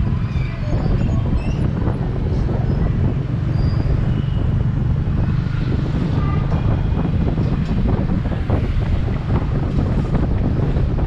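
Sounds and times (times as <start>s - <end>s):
motorbike engine rumble: 0.0s - 11.0s
wind buffeting microphone: 0.0s - 11.0s.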